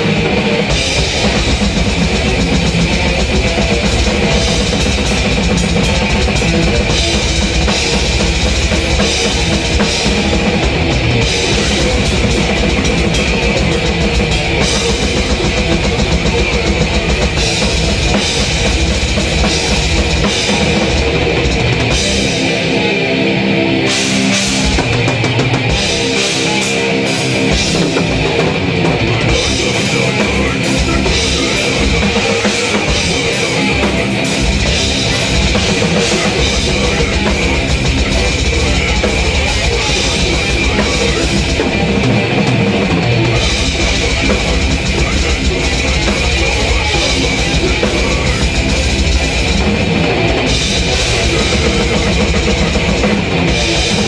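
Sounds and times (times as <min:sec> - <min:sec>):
fast heavy metal drumming: 0:00.0 - 0:54.0
metal music: 0:00.0 - 0:54.0
rapid bass drum strokes: 0:00.0 - 0:54.0.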